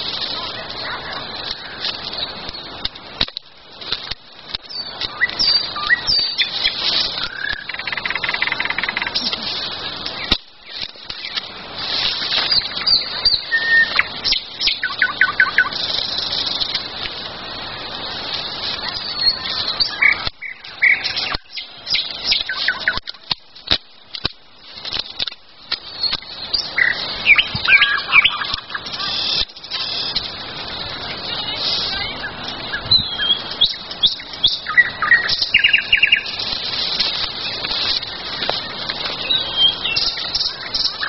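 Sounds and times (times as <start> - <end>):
songbirds singing: 0.0 - 2.9, 4.6 - 23.4, 25.6 - 41.0
rustling: 0.0 - 41.0.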